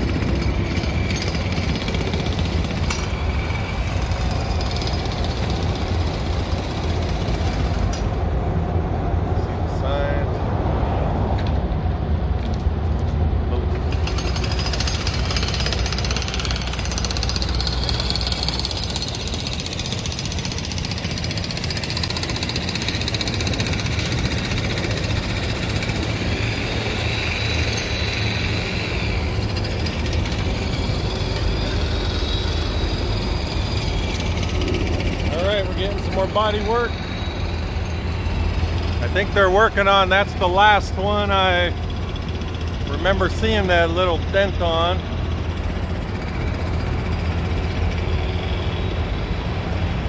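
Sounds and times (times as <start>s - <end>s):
machinery rattling: 0.0s - 8.3s, 13.8s - 49.2s.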